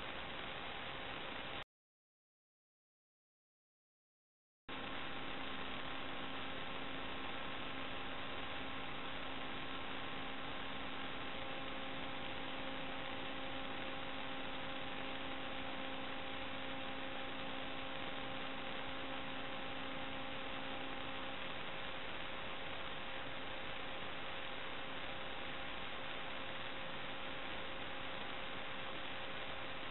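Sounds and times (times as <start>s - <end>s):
electronic hiss: 0.0s - 1.6s, 4.7s - 29.9s
faint hum tones: 0.0s - 1.6s, 4.7s - 29.9s.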